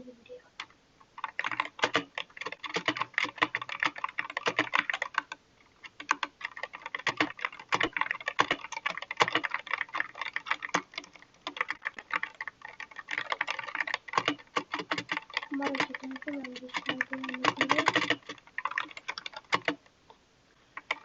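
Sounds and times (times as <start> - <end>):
fast typing on mechanical keyboard: 0.6 - 19.8, 20.8 - 21.0.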